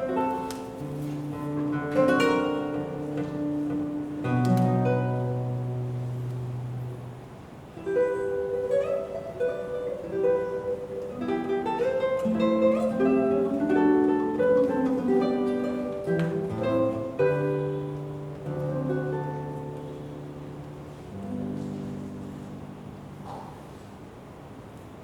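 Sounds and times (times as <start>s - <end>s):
classical guitar playing: 0.0s - 25.0s.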